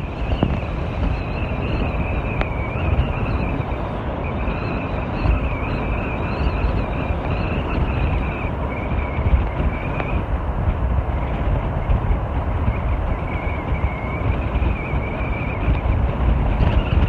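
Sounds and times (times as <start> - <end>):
thin wavering high whine: 0.0 - 17.0
wind buffeting microphone: 0.0 - 17.0.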